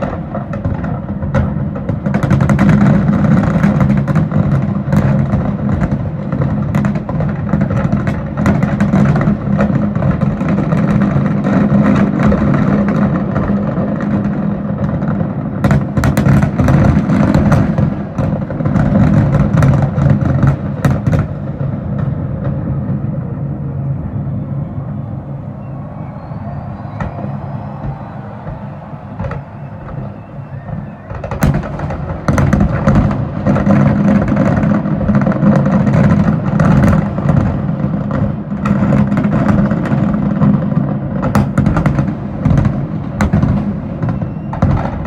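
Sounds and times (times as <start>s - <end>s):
fireworks bursts and bangs: 0.0s - 23.3s, 24.2s - 45.0s.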